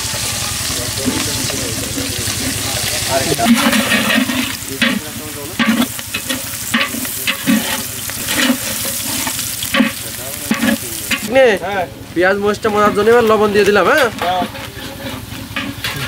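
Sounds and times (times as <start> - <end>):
onions sizzling in oil: 0.0 - 16.0
stirring in pan: 0.0 - 16.0.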